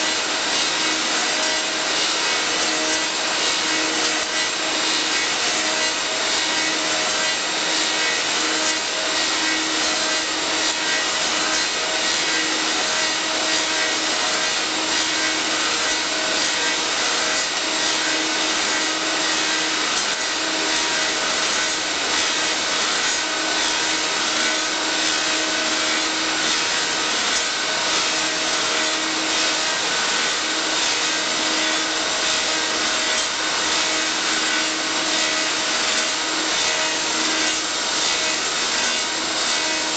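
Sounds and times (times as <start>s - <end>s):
lathe scraping wood: 0.0s - 39.9s.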